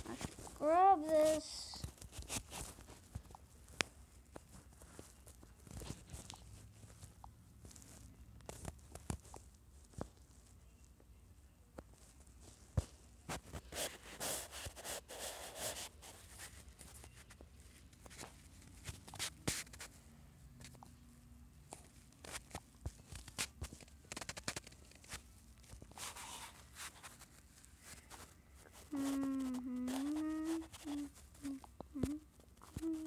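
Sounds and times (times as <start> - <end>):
scratchy rustling: 0.0 - 10.6, 11.9 - 20.0, 21.8 - 33.0.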